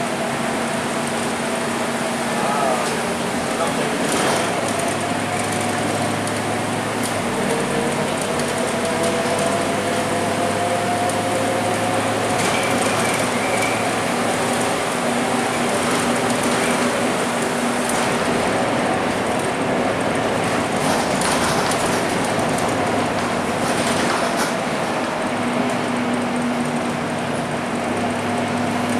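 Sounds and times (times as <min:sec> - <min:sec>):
bus diesel engine whine: 0:00.0 - 0:28.9.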